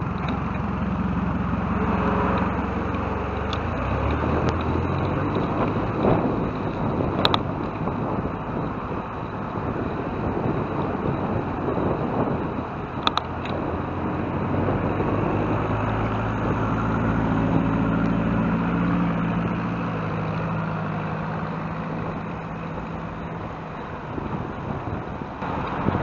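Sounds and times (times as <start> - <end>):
passing vehicle engine hum: 0.0 - 26.0
tyre and road noise: 0.0 - 26.0.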